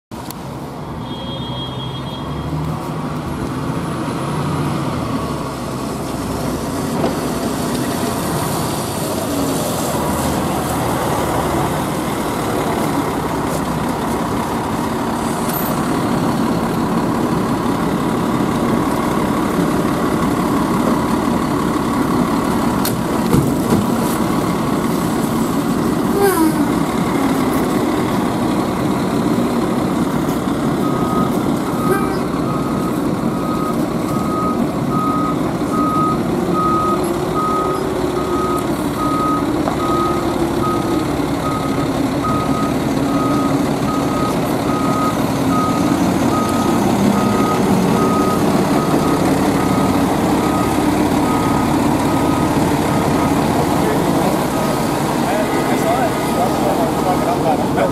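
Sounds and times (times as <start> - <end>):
fire engine diesel engine running: 2.7 - 57.9.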